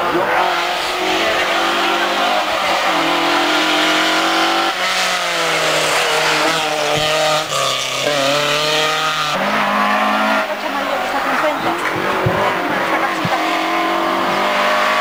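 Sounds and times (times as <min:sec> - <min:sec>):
rally car engines revving: 0:00.0 - 0:15.0.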